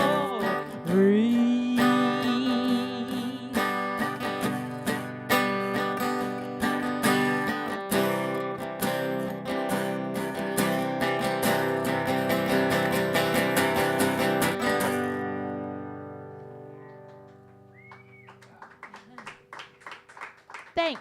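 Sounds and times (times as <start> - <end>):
acoustic guitar strumming: 0.0 - 18.2.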